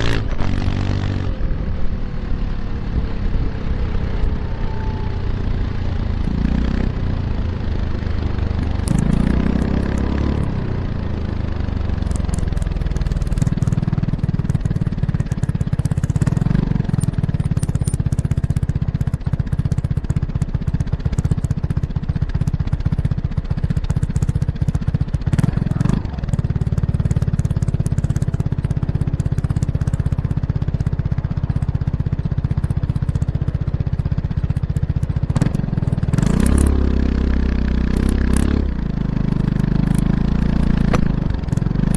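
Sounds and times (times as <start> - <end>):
scooter engine accelerating: 0.0 - 41.9.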